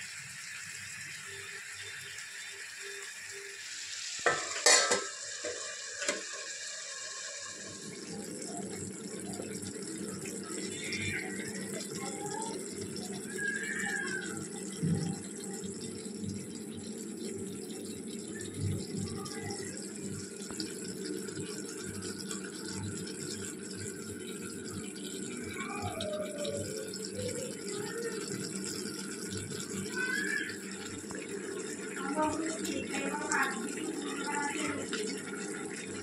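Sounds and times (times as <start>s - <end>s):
food simmering and bubbling: 0.0s - 36.0s.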